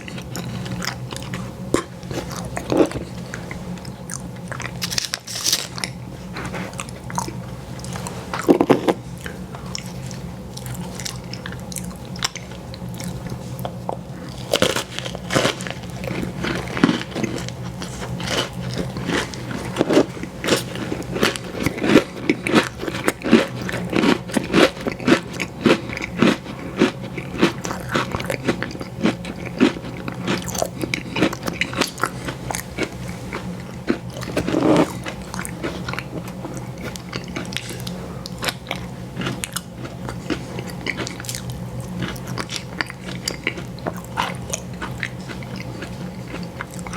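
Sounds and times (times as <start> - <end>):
chewing and biting: 0.0 - 46.9
steady low hum: 0.0 - 46.9.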